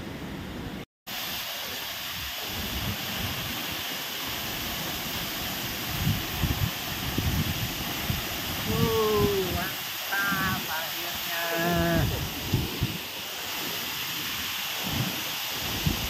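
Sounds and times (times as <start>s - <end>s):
waterfall rushing: 1.1s - 16.0s.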